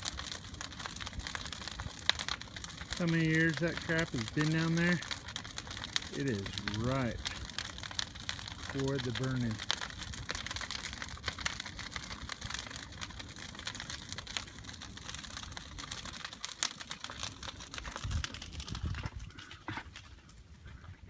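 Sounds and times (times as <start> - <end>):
bonfire crackling and popping: 0.0 - 21.0
fire low rumble: 0.0 - 21.0.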